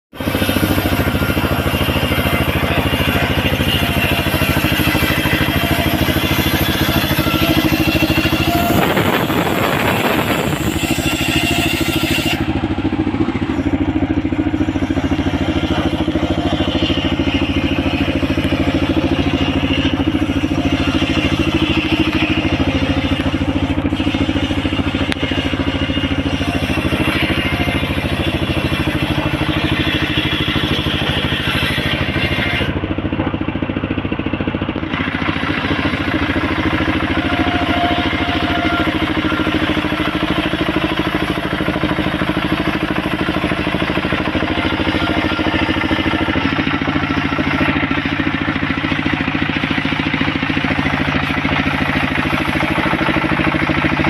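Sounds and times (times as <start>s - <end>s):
circular saw cutting log: 0.1s - 54.0s
engine hum: 0.1s - 54.0s.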